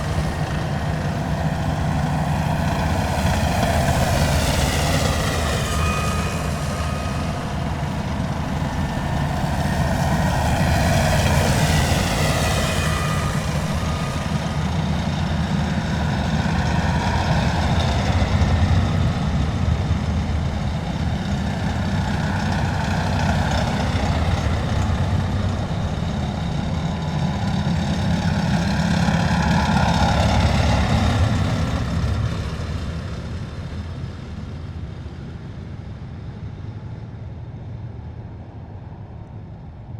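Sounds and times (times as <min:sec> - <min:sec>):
heavy vehicles driving past: 0:00.0 - 0:35.3.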